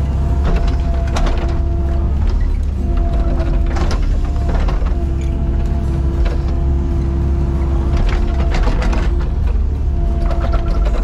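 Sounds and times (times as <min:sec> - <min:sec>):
diesel engine running: 0:00.0 - 0:11.0
hydraulic whine: 0:00.0 - 0:11.0.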